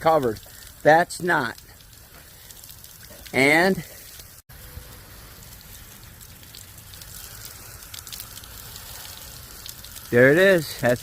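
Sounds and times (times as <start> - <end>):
water running off boat hull: 0.0 - 11.0.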